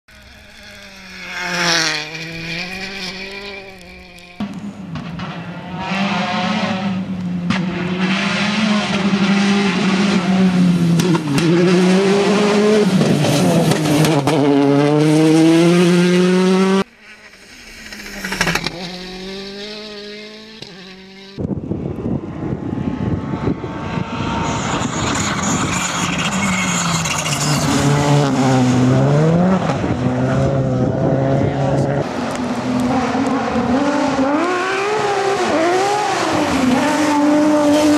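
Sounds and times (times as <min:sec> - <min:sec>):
rally car engines revving: 0:00.1 - 0:37.9.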